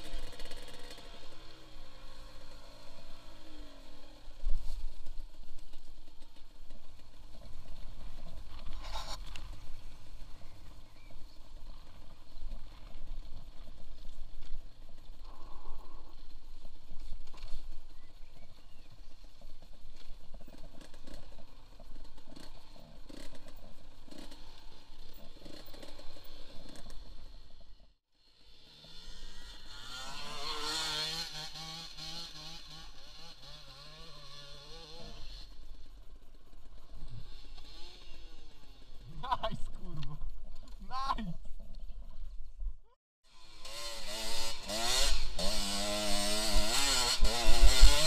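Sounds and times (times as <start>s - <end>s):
dirt bike engine: 0.0s - 48.0s.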